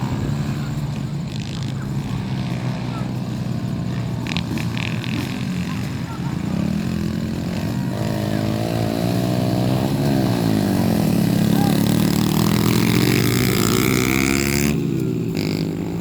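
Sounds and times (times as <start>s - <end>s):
pit bike engines revving: 0.0s - 16.0s.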